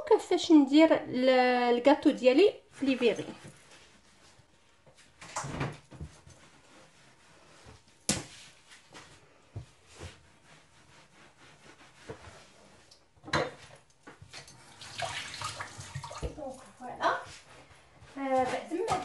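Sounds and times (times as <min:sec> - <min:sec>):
cloth wiping counter: 0:02.5 - 0:19.0.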